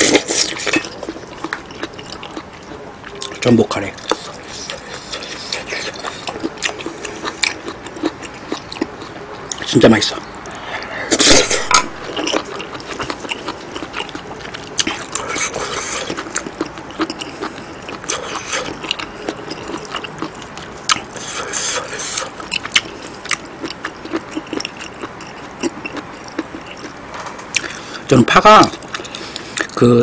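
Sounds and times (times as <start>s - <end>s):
close chewing with wet mouth clicks: 0.0s - 29.8s.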